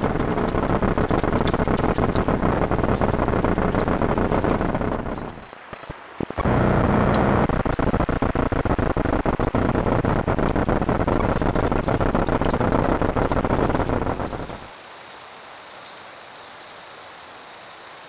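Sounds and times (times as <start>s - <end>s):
crackling hiss with dense clicks: 0.0s - 16.6s.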